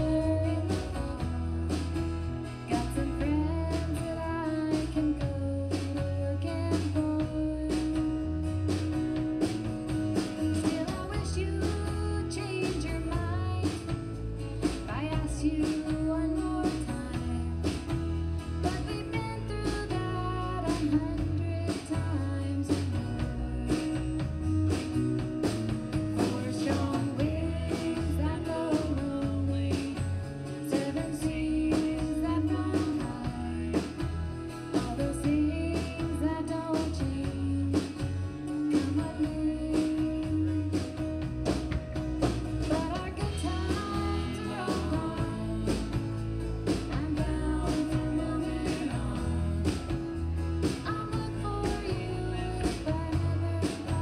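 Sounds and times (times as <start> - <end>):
woman singing: 0.0 - 9.0, 10.2 - 24.8, 26.1 - 41.4, 42.4 - 54.0
drum kit steady beat: 0.0 - 54.0
electric bass: 0.0 - 54.0
strummed acoustic guitar: 0.0 - 54.0.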